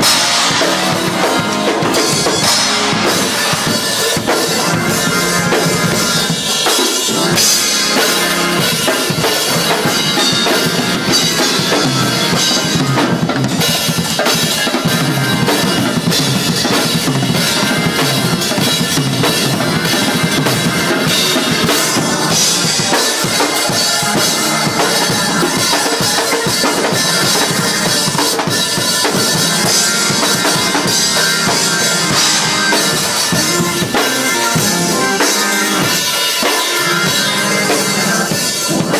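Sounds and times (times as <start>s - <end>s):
cymbals washing: 0.0s - 38.9s
drum kits playing: 0.0s - 38.9s.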